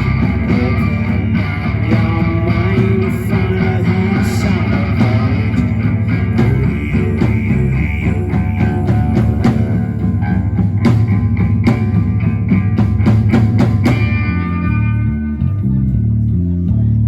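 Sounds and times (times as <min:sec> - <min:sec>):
rock band playing live: 0:00.0 - 0:16.5
bass and held guitar notes: 0:00.0 - 0:17.0.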